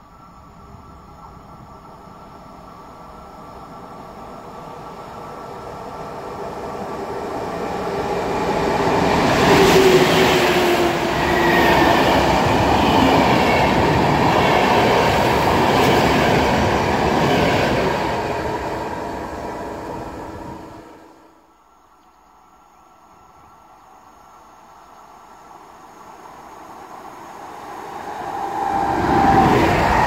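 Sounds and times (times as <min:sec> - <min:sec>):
passenger train passing: 0:00.0 - 0:21.5, 0:22.5 - 0:30.0.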